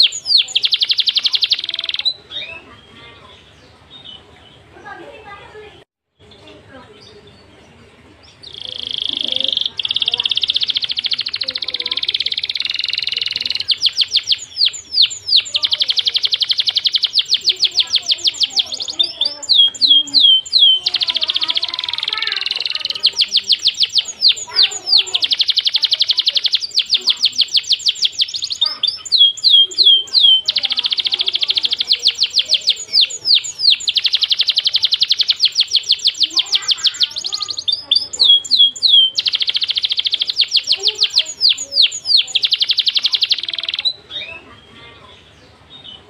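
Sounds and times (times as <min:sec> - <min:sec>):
birds trilling: 0:00.0 - 0:46.0.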